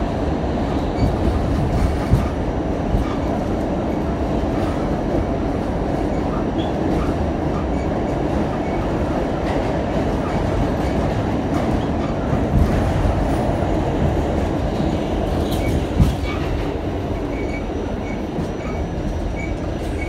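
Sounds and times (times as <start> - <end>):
subway car wheels rumbling: 0.0 - 20.0.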